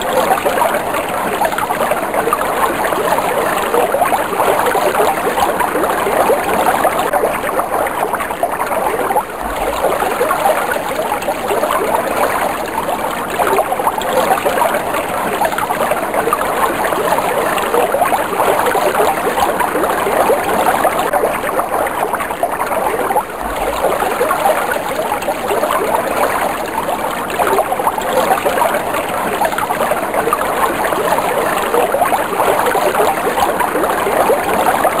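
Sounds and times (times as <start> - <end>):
water splashing and gurgling: 0.0 - 35.0.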